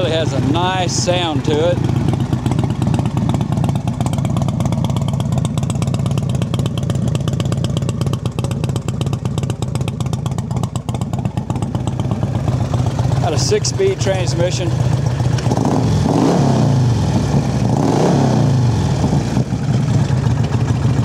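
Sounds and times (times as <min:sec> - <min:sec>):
trike engine idling: 0:00.0 - 0:17.8, 0:18.5 - 0:21.0.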